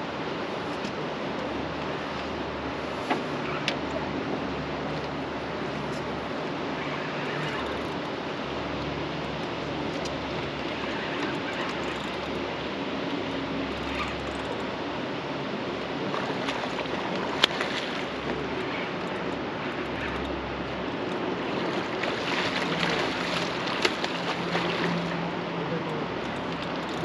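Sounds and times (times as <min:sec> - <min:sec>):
moving water around boat: 0:00.0 - 0:27.0
wind: 0:00.0 - 0:27.0.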